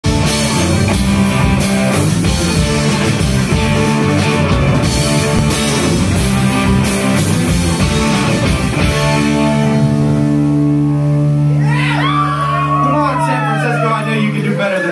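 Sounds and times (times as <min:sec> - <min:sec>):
rock band playing: 0:00.0 - 0:14.6.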